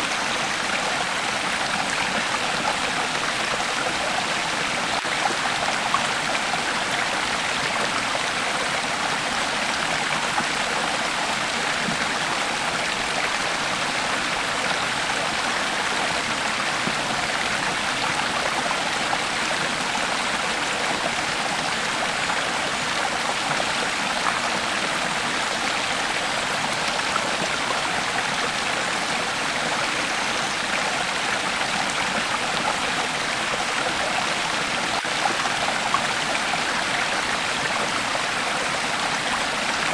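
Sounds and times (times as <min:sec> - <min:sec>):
creek water flowing and splashing: 0:00.0 - 0:39.9.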